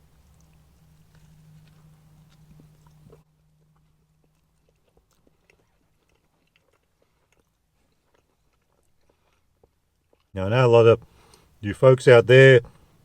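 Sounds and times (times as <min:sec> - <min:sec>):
man chewing: 0:00.0 - 0:10.3, 0:11.0 - 0:11.6
low background hum: 0:00.0 - 0:13.0.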